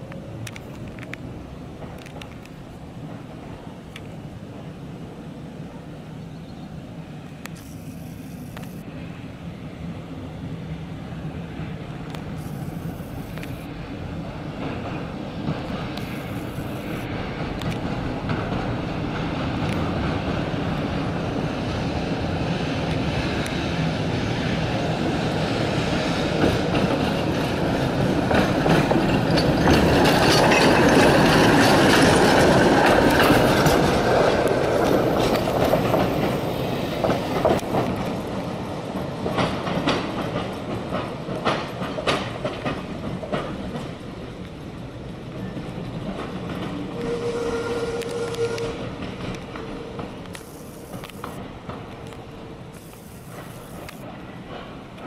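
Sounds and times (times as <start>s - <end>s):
tram wheels clacking over rail joints: 0.0s - 4.8s, 11.1s - 55.0s
tram passing: 0.0s - 55.0s.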